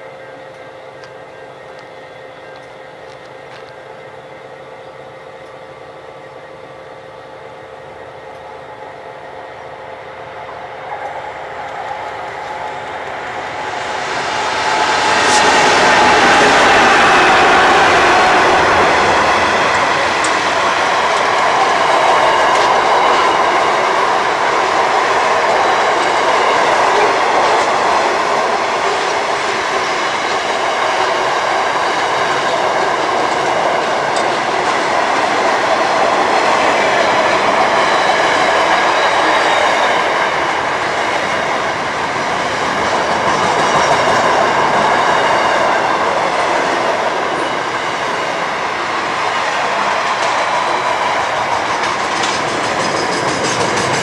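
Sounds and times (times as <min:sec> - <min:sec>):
steel wheels running on rail: 0:00.0 - 0:54.0.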